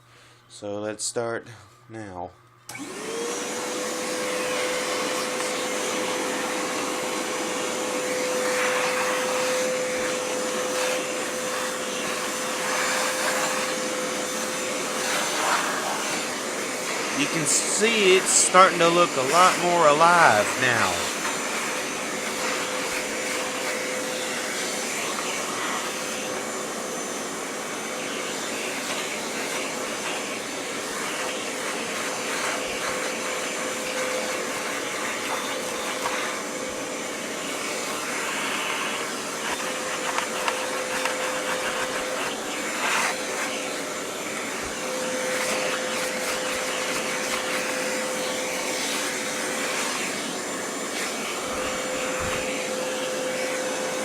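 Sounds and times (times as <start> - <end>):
hand vacuum running: 2.7 - 54.0.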